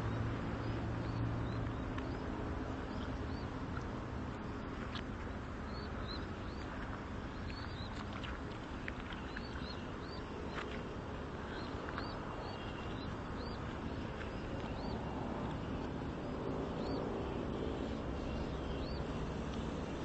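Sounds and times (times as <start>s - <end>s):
outdoor background rumble: 0.0s - 20.0s.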